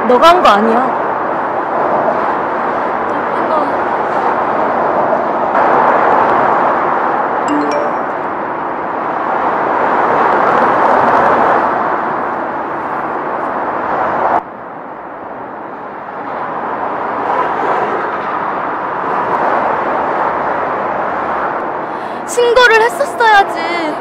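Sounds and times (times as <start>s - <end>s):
passing road traffic: 0.0s - 24.0s.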